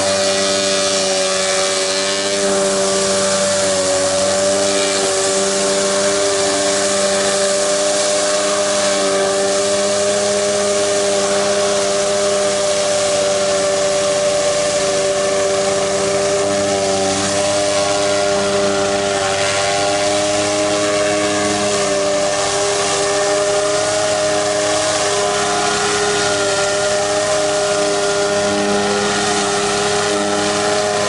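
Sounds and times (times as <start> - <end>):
pressure washer engine running: 0.0 - 31.0
water spray hissing: 0.0 - 31.0.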